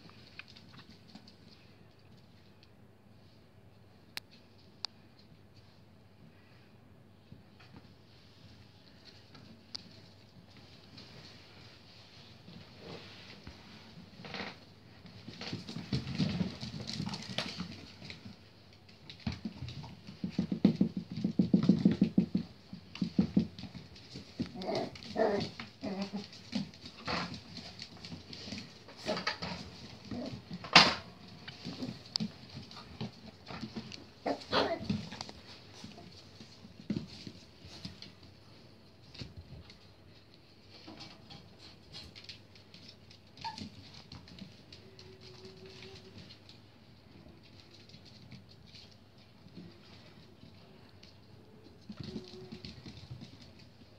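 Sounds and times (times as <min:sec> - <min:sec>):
puppy paws pattering on tile: 0:00.0 - 0:53.9.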